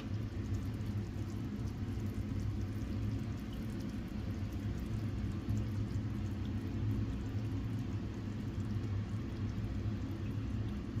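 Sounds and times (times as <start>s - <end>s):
pot simmering with low bubbling: 0.0s - 11.0s.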